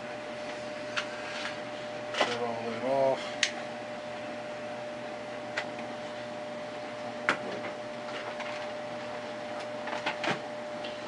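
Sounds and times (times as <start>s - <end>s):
equipment hum: 0.0s - 11.0s.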